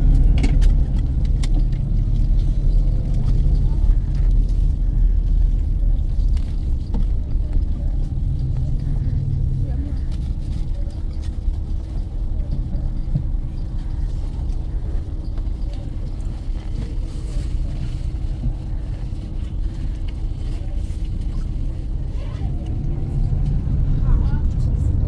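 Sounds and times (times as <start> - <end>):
bus engine and road rumble: 0.0 - 25.0
constant hum: 0.0 - 25.0.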